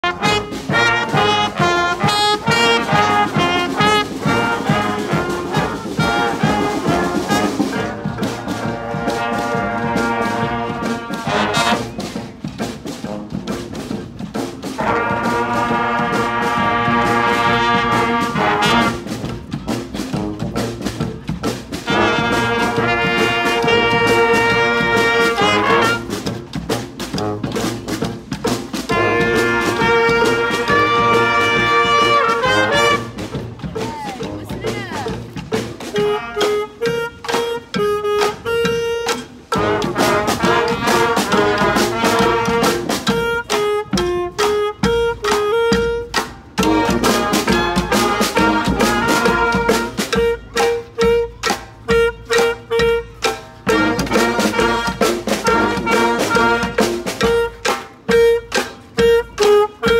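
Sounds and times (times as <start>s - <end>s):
brass band playing rock tune: 0.0s - 59.9s.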